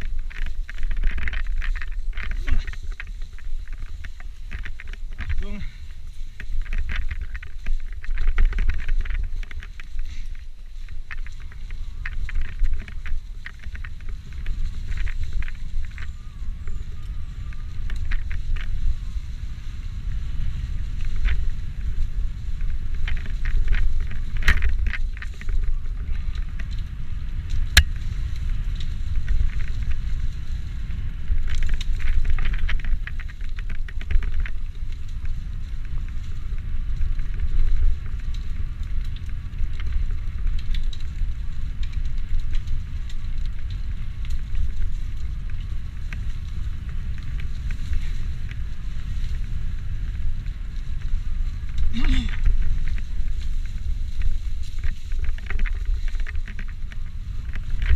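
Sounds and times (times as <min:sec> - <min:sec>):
bike rattling and clicking: 0:00.0 - 0:57.9
wind on microphone: 0:00.0 - 0:57.9.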